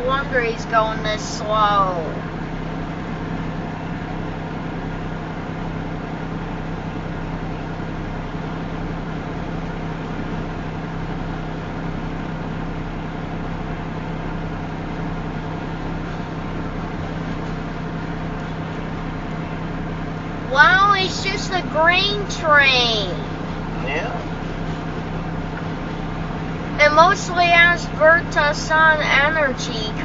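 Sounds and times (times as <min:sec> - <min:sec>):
steady rumble of moving vehicles: 0:00.0 - 0:30.0.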